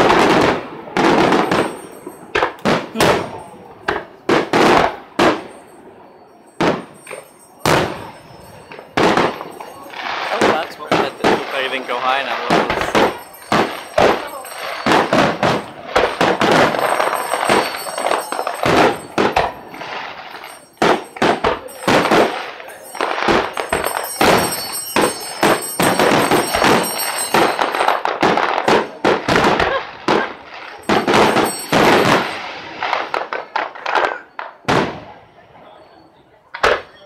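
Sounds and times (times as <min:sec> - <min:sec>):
fireworks bursting: 0:00.0 - 0:35.4.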